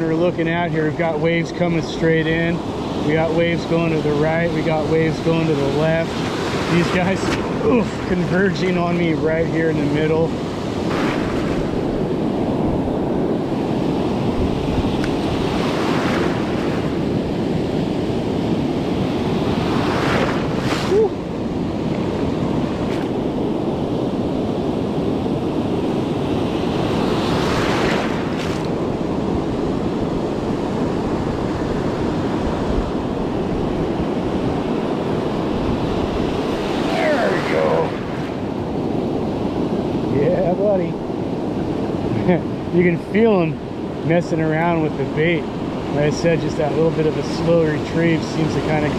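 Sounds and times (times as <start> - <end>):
surf washing and breaking: 0.0 - 48.9
wind buffeting microphone: 0.0 - 48.9.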